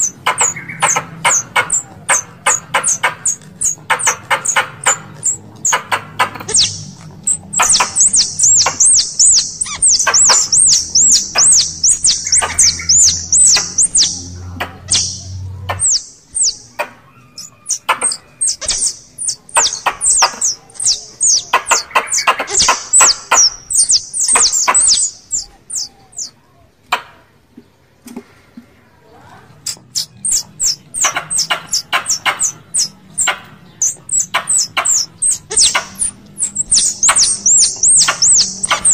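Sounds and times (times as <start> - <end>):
high sharp squirrel chirps: 0.0 - 26.3, 29.6 - 38.9.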